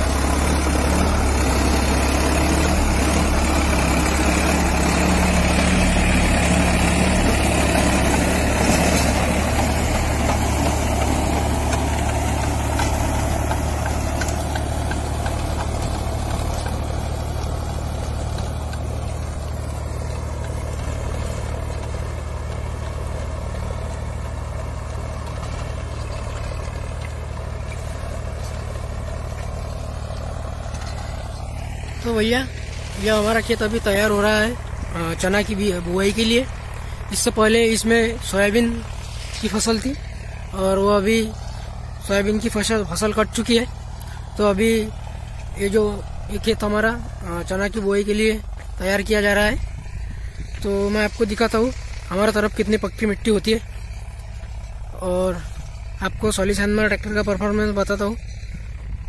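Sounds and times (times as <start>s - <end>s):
rotavator tilling soil: 0.0s - 59.0s
tractor diesel engine: 0.0s - 59.0s.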